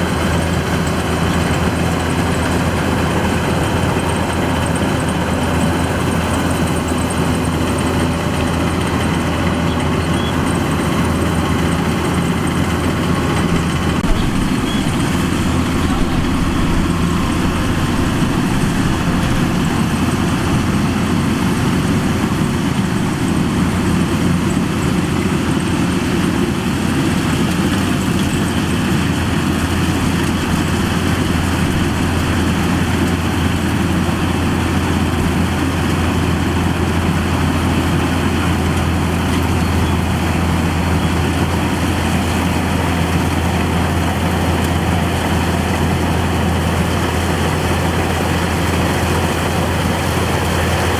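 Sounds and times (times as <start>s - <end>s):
diesel engine droning: 0.0s - 50.9s.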